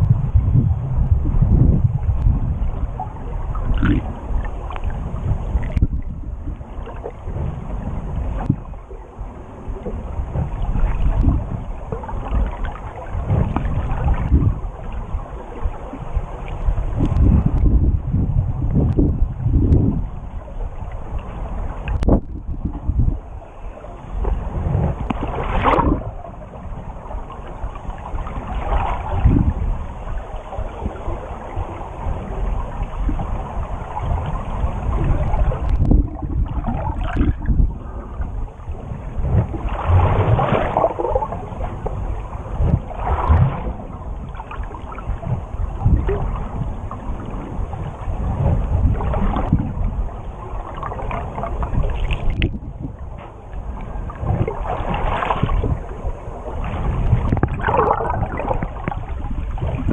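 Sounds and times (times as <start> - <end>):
muffled underwater water sloshing: 0.0 - 59.9.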